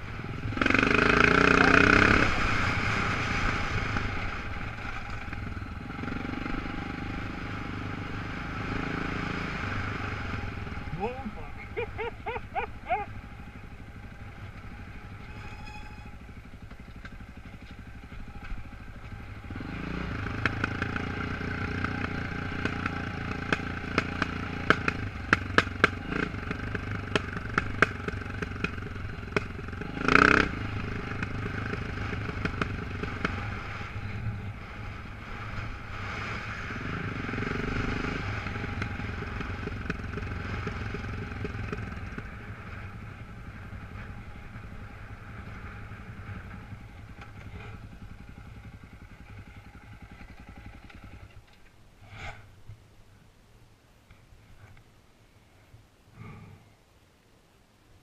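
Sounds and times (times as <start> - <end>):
motorcycle engine running: 0.0 - 51.7.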